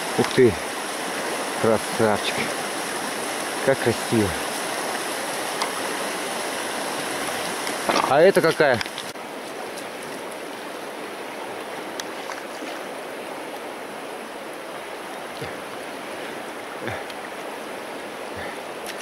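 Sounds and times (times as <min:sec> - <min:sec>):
river current rushing: 0:00.0 - 0:19.0.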